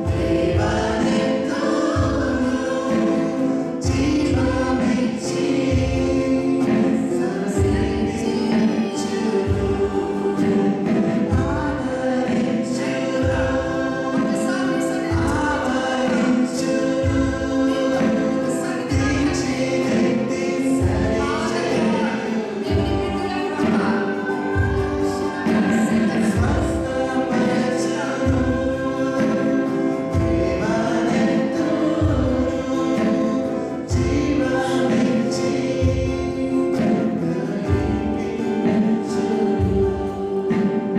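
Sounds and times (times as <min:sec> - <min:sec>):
choir singing with band: 0:00.0 - 0:40.9.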